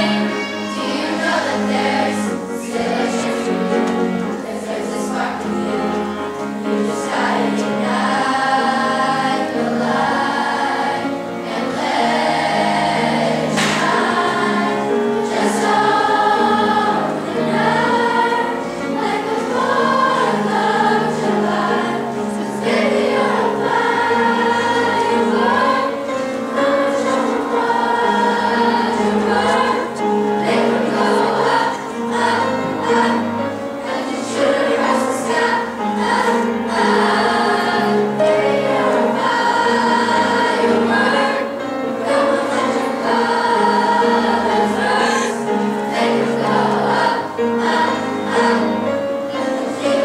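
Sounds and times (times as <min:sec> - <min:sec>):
youth choir singing: 0:00.0 - 0:50.0.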